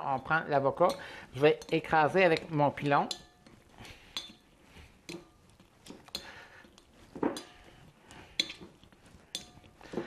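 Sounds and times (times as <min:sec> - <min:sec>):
metal masher clinking on glass bowl: 0:00.1 - 0:04.5, 0:05.1 - 0:07.7, 0:08.3 - 0:09.8.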